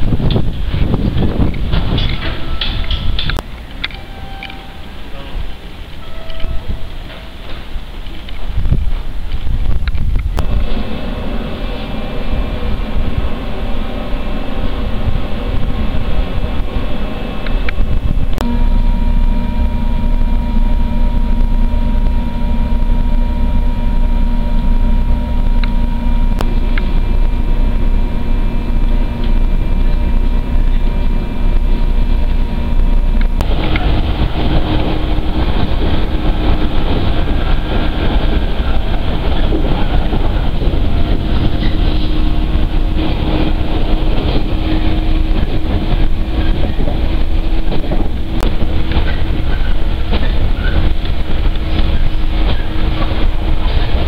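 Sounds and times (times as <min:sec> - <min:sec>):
electric train hum: 0:00.0 - 0:54.0
train rumbling along the line: 0:00.0 - 0:54.0.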